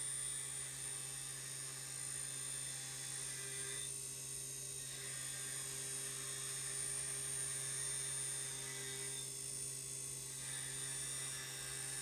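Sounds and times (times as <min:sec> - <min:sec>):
milling machine humming: 0:00.0 - 0:03.9, 0:04.8 - 0:09.4, 0:10.0 - 0:12.0.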